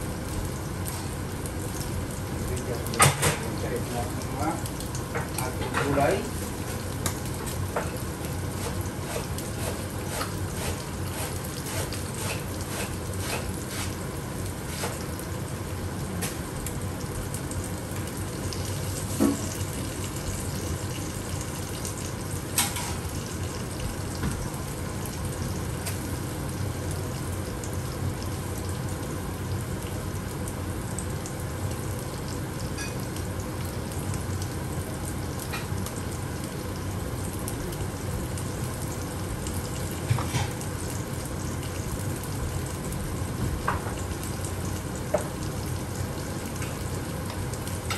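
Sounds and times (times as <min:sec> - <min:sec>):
fish frying in oil sizzling: 0:00.0 - 0:47.9.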